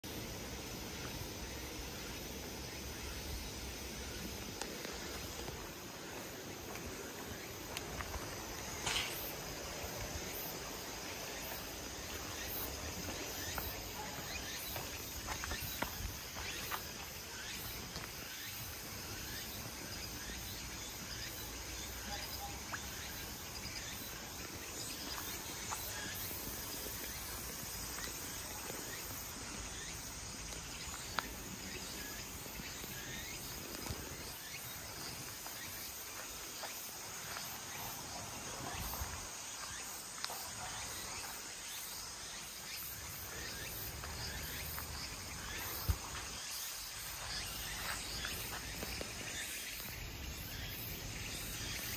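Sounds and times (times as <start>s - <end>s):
insects chirring: 0.0s - 51.9s
footsteps on paved path: 2.4s - 51.9s.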